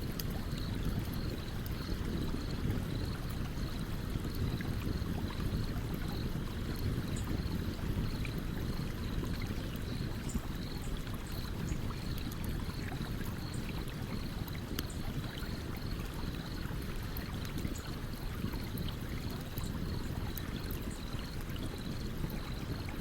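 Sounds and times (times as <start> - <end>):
campfire crackling and popping: 0.0 - 8.0, 10.8 - 22.9
stream running: 0.0 - 23.0.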